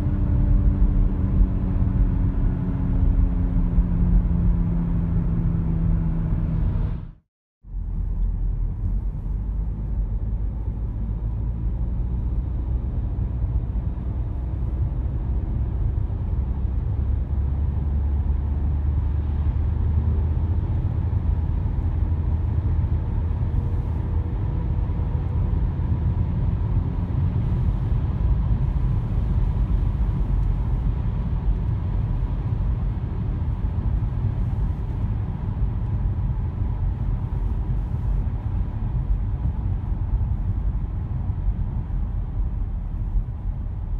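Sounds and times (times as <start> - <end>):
road and tyre rumble: 0.0 - 43.9.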